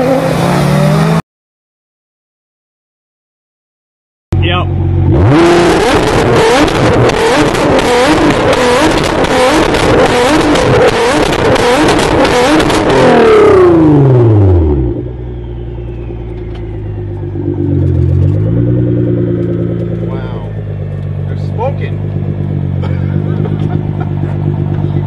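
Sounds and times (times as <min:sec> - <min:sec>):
car engine revving: 0:00.0 - 0:01.2, 0:04.4 - 0:25.0
exhaust crackling: 0:04.4 - 0:25.0.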